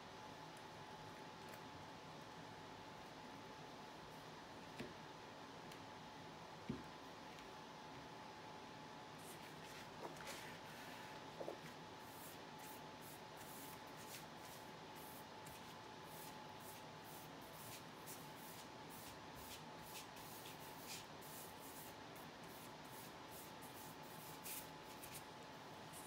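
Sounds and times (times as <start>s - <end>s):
faint high hum: 0.0s - 26.0s.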